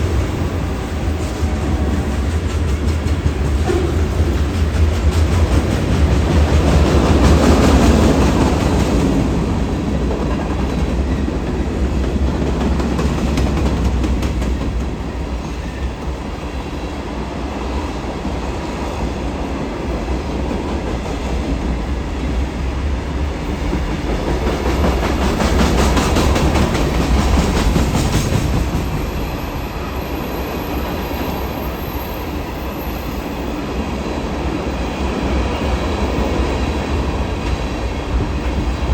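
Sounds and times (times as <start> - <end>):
diesel train rumbling past: 0.0 - 38.9.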